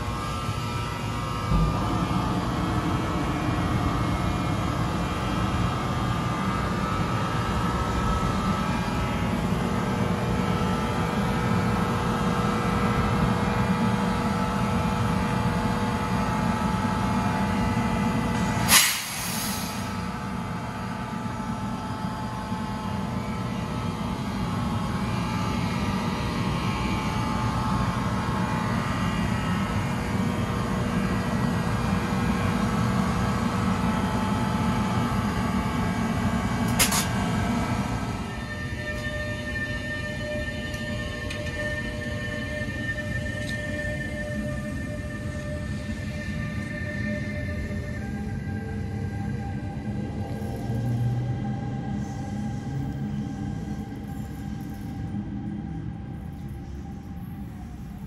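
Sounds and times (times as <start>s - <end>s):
train rumbling with whine: 0.0s - 58.0s.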